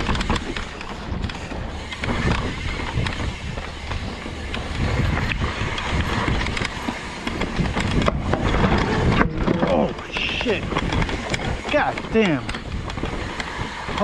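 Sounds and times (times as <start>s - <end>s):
bike rattling and clicking: 0.0s - 14.0s
tyres rumbling over dirt: 0.0s - 14.0s
wind buffeting microphone: 0.0s - 14.0s.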